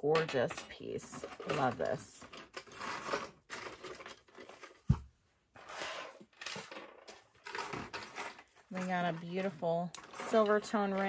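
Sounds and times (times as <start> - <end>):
wrapping rustling and crinkling: 1.2 - 11.0.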